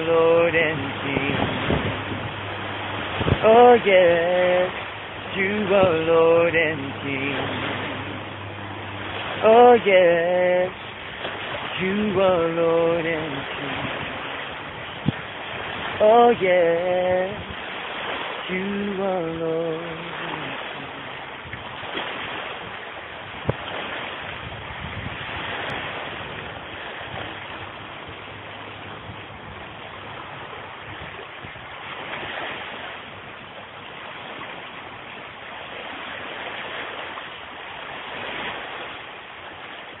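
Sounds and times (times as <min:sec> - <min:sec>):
sea surf washing on shore: 0:00.0 - 0:40.0
wind on microphone: 0:00.0 - 0:40.0.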